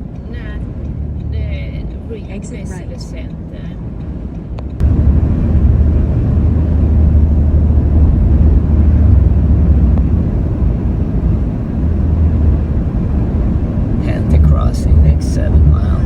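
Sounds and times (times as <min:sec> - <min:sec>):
car driving at road speed: 0:00.0 - 0:16.0.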